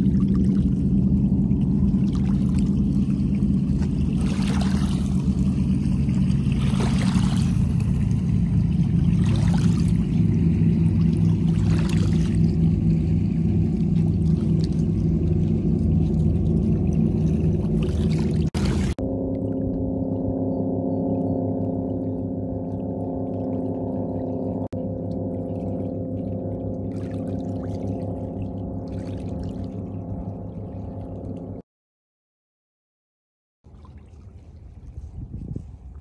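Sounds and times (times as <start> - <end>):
steady low rumble: 0.0 - 31.6, 33.7 - 36.0.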